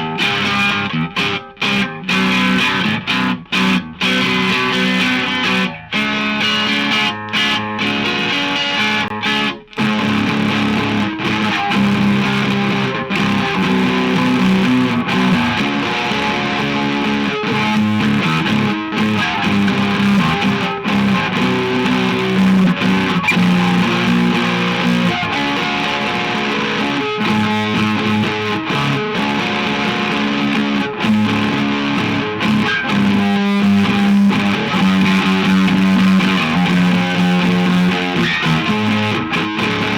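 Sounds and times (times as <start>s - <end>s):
electric guitar strumming: 0.0s - 39.9s.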